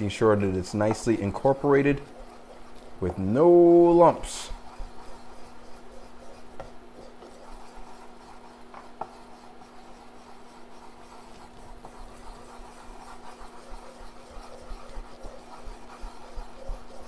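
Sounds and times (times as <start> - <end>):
wooden spoon scraping saucepan: 0.0 - 17.0.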